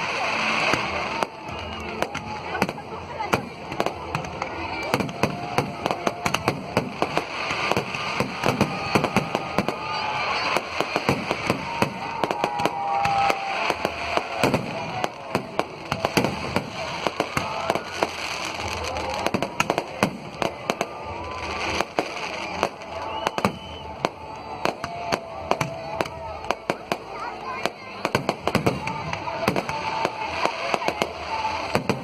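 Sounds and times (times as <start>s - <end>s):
firecrackers banging and popping: 0.0s - 32.0s.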